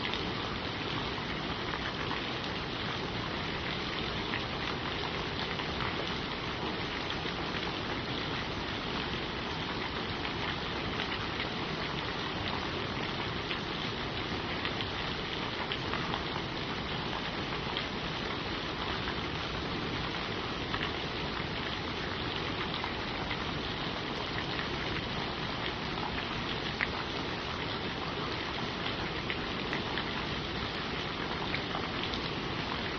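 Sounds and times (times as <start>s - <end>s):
rain falling on leaves: 0.0s - 32.9s.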